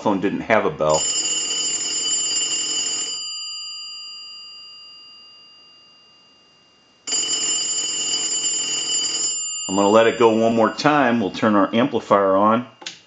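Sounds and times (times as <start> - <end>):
telephone bell ringing: 0.9 - 12.8.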